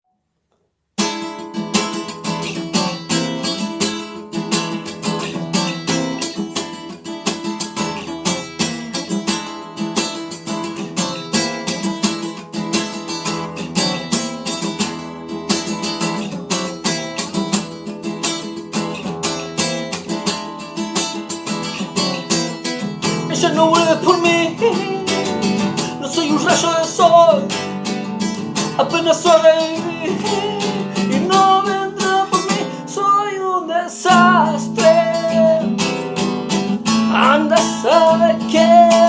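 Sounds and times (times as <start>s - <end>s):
strummed guitar: 1.0s - 39.0s.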